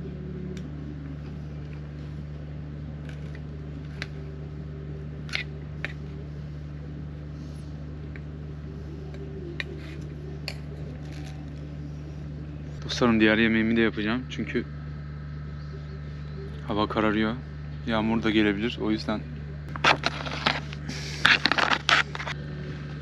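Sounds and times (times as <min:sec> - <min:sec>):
generator humming: 0:00.0 - 0:23.0.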